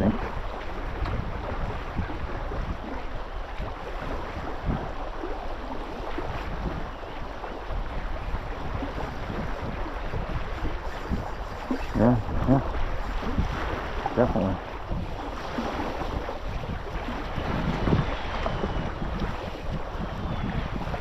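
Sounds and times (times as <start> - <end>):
moving water: 0.0 - 21.0
wind buffeting microphone: 0.0 - 21.0.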